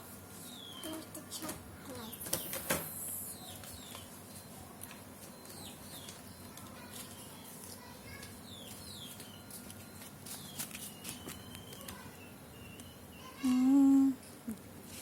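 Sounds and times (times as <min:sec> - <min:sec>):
birds chirping: 0:00.4 - 0:14.1.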